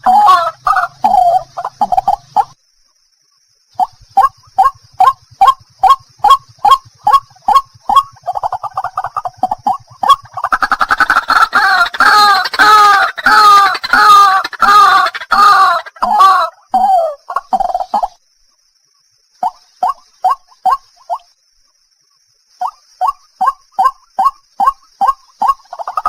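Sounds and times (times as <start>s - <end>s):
bird harsh croaking calls: 0.0s - 2.6s, 3.7s - 18.2s, 19.4s - 21.3s, 22.5s - 26.0s.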